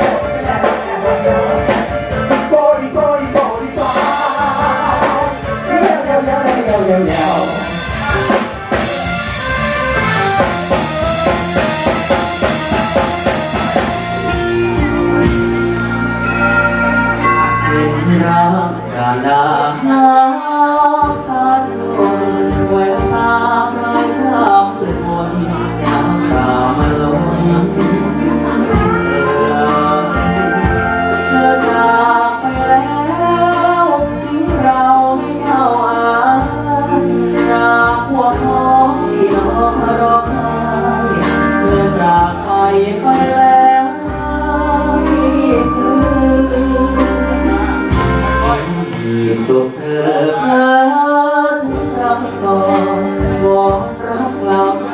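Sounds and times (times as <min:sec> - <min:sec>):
man singing into microphone: 0:00.0 - 0:09.3, 0:17.2 - 0:54.9
backing band track with beat: 0:00.0 - 0:54.9.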